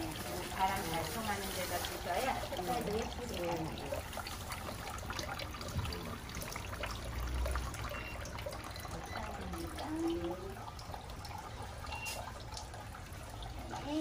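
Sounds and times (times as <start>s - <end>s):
fountain trickling into a jar: 0.0s - 14.0s.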